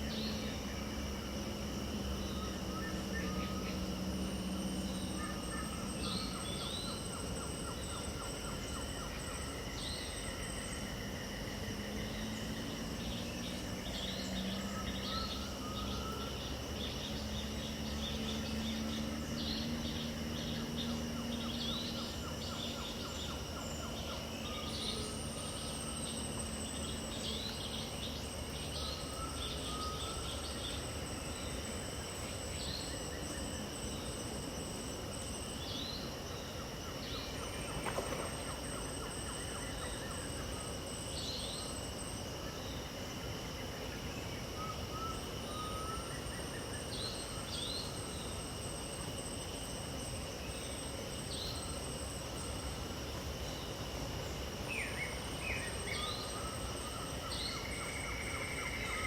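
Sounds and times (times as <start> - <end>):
bird chirps and trills: 0.0 - 59.0
insects droning: 0.0 - 59.0
low hum: 0.0 - 59.0.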